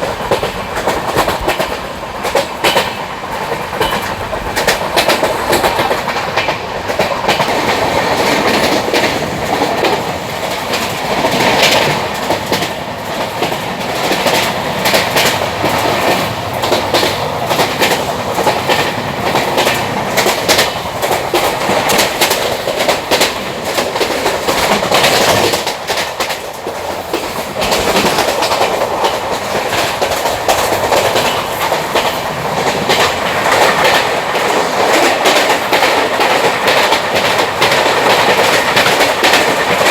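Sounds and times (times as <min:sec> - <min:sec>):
train rolling rumble: 0:00.0 - 0:39.9
wheels clacking over track: 0:00.0 - 0:39.9.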